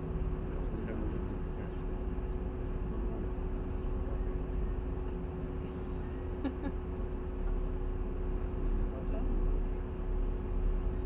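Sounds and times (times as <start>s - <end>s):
bus drivetrain and road rumble: 0.0s - 11.0s
constant whine: 0.0s - 11.0s.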